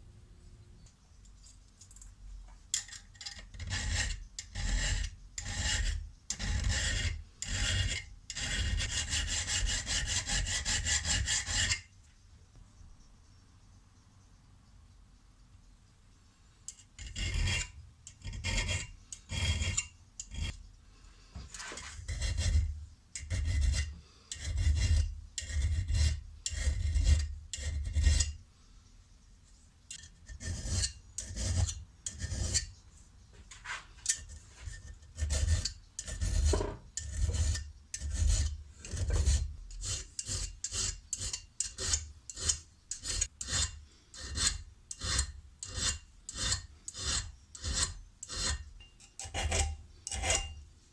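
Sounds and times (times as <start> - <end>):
scraping a steel spanner: 1.2 - 12.0, 16.7 - 20.6, 21.5 - 28.4, 29.9 - 32.8, 33.5 - 50.7.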